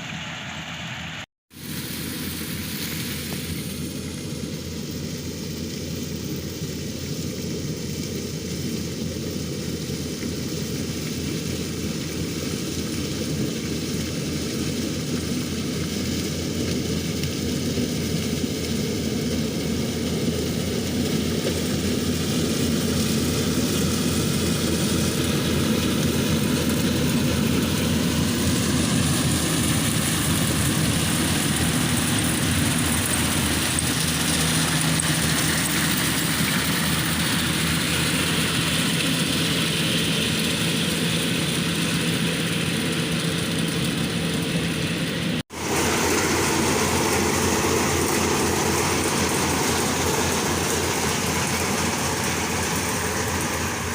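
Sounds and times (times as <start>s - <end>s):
harvester machinery drone: 0.0s - 53.9s.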